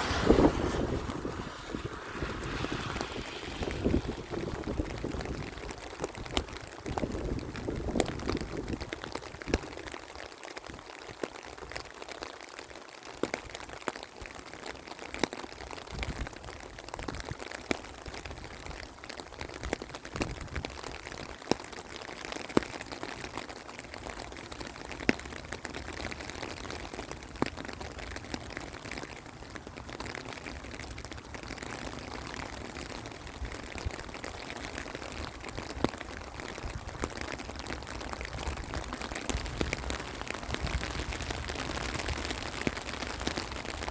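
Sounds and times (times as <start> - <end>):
raindrops ticking nearby: 0.0 - 43.9
steady rain falling: 0.0 - 43.9.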